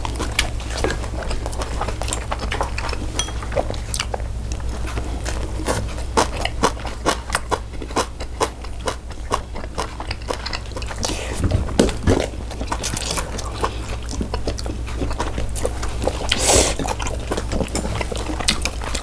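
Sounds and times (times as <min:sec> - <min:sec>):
chewing and crunching food: 0:00.0 - 0:19.0
steady low hum: 0:00.0 - 0:19.0.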